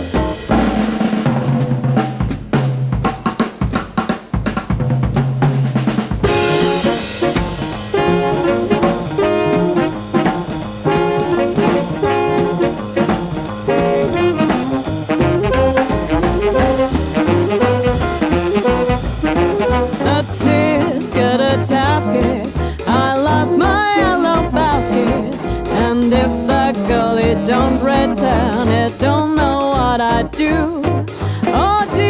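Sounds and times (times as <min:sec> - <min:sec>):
swing band playing: 0:00.0 - 0:32.0.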